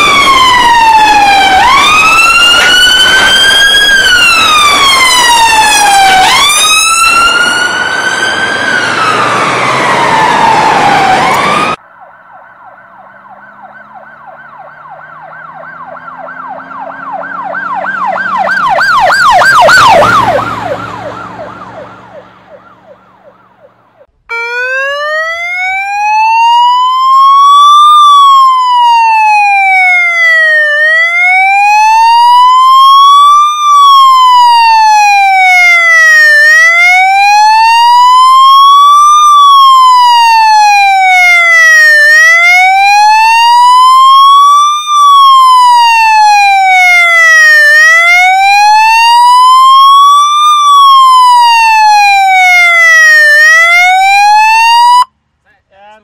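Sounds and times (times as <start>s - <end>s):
electronic siren wail: 0.0s - 55.1s
fast warbling siren yelp: 0.0s - 55.1s.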